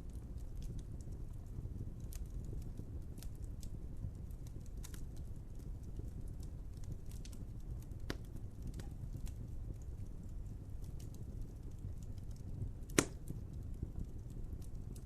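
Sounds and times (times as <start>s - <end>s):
fire crackles and pops: 0.0s - 15.0s
wood fire rumble: 0.0s - 15.0s.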